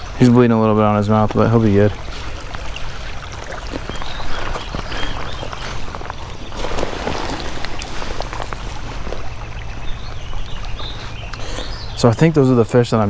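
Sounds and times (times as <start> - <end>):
creek water trickling: 0.0 - 13.0
small water splashes: 0.0 - 13.0.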